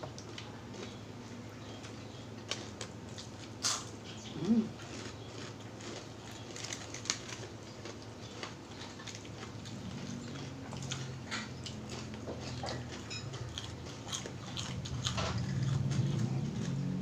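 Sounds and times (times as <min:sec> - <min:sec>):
chewing crispy food: 0:00.0 - 0:17.0.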